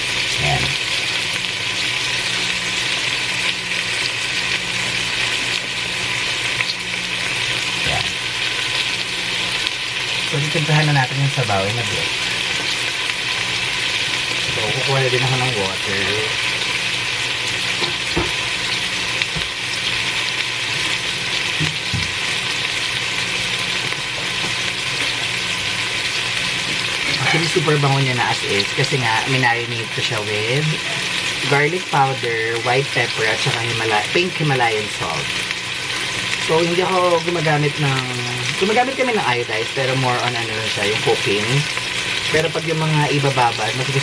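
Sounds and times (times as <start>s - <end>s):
chicken sizzling in a pot: 0.0s - 44.0s.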